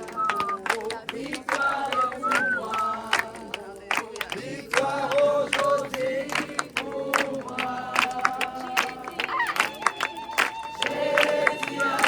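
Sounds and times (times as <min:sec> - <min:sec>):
group singing a worship chorus: 0:00.0 - 0:12.0
hands clapping in time: 0:00.0 - 0:12.0.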